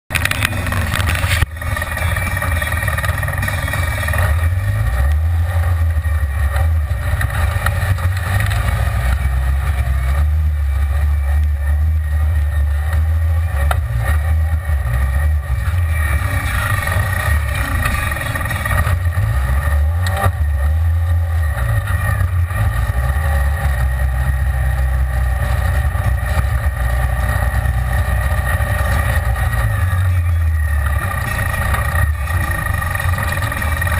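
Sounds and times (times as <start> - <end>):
engine droning: 0.1 - 33.9.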